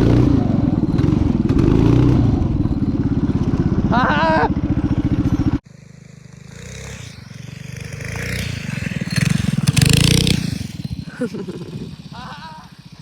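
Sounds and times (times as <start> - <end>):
minibike engine running: 0.0 - 13.0.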